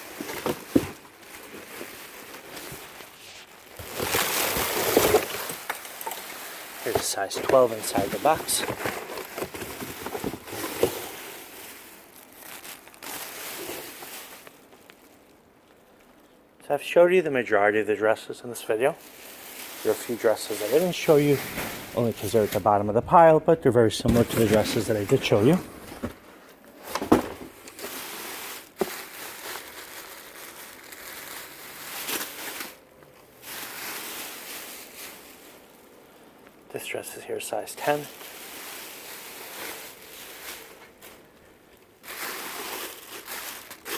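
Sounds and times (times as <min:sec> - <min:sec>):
fabric rustling in cardboard box: 0:00.0 - 0:15.3, 0:19.0 - 0:22.7, 0:24.0 - 0:35.8, 0:37.8 - 0:41.4, 0:42.0 - 0:43.9.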